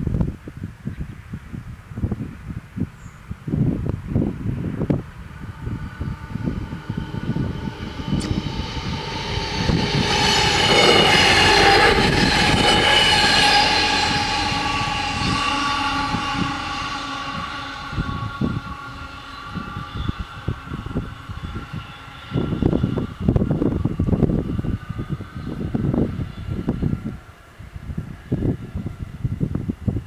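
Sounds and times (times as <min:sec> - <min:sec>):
diesel train passing: 0:02.6 - 0:29.5.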